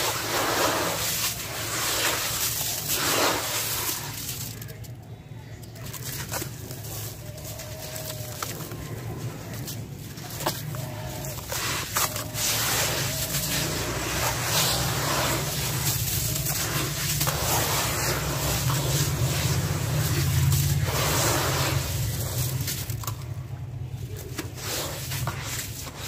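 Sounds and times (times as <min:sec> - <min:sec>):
hands scraping wet sand in tub: 0:00.0 - 0:04.9, 0:05.8 - 0:23.3, 0:23.9 - 0:26.0.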